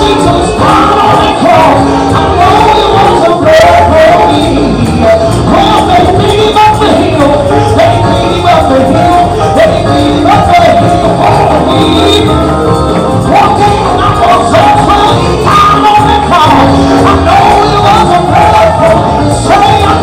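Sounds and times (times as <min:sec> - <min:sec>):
live band playing gospel song: 0:00.0 - 0:20.0.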